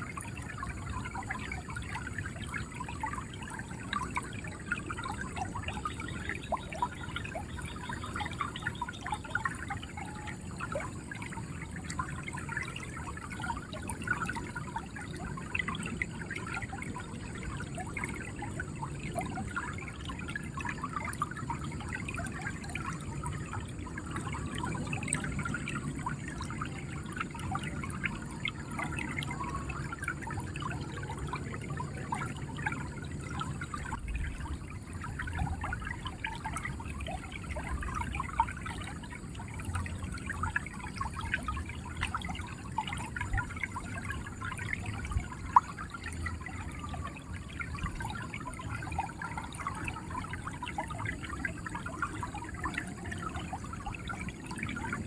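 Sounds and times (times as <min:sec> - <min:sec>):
river water gurgling over stones: 0:00.0 - 0:55.0.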